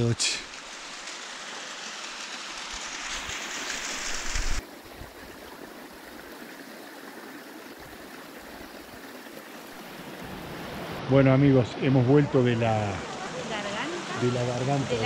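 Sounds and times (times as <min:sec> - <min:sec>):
flowing water: 0:00.0 - 0:15.0
waterfall rushing: 0:00.0 - 0:15.0.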